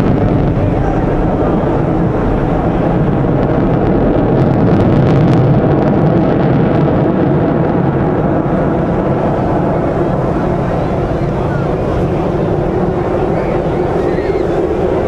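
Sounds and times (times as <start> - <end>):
aircraft engine roar: 0.0 - 15.0.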